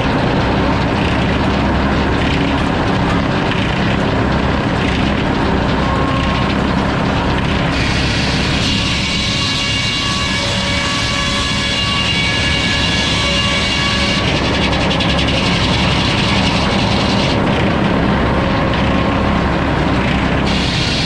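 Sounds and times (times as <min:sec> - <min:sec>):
sawmill saw cutting log: 0:00.0 - 0:21.0.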